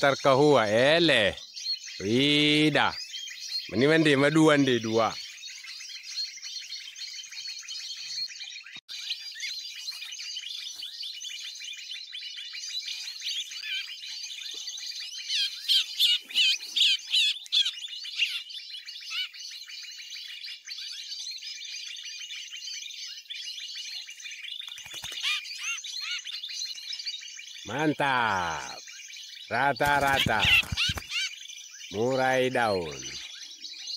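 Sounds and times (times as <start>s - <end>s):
sharp rapid bird calls: 0.0s - 33.9s
songbirds chirping and calling: 0.0s - 33.9s.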